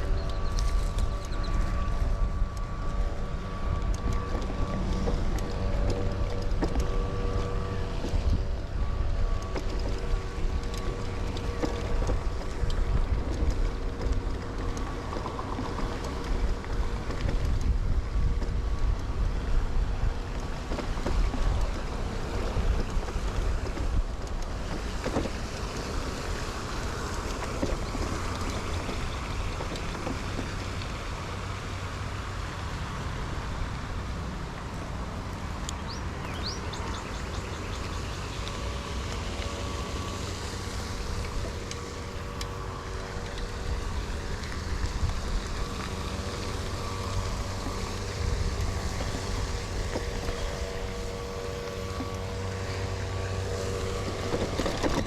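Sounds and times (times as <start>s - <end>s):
tyres rolling on pavement: 0.0s - 55.0s
wind on microphone: 0.0s - 55.0s.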